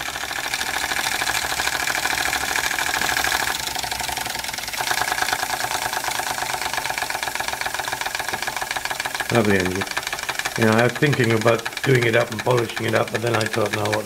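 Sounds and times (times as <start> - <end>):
toy steam engine running: 0.0 - 14.0.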